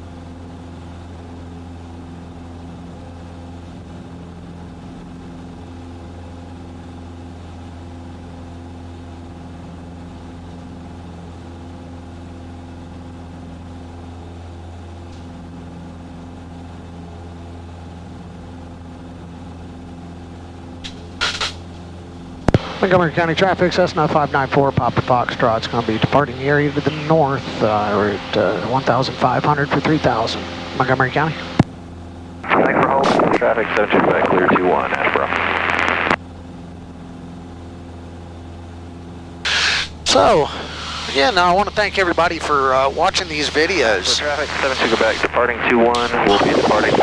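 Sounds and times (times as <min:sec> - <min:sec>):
airplane engine and propeller droning: 0:00.0 - 0:47.0.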